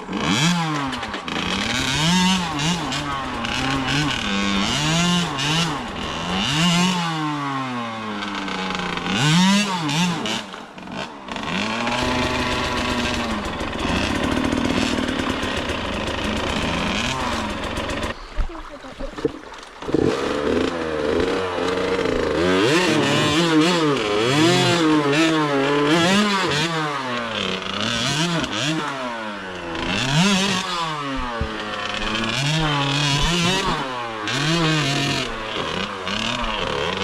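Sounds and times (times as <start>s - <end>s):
dirt bike engine revving: 0.0s - 18.3s, 19.8s - 37.0s.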